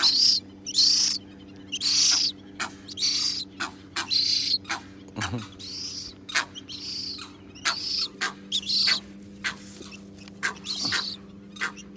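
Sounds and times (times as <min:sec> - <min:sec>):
bird chick peeping: 0:00.0 - 0:11.9.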